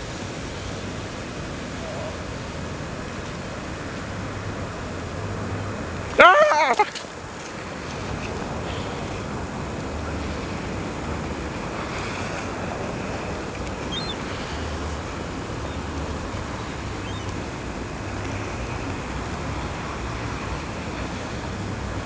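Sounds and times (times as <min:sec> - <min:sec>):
ocean surf washing: 0:00.0 - 0:22.0.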